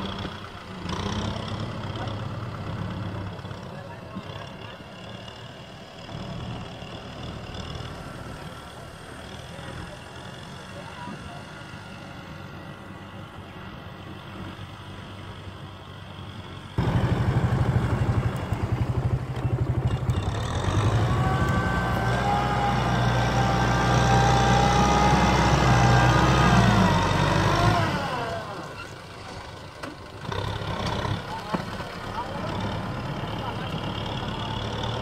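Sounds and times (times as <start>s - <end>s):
high engine whine: 0.0s - 30.3s
tractor diesel engine running: 0.0s - 35.0s.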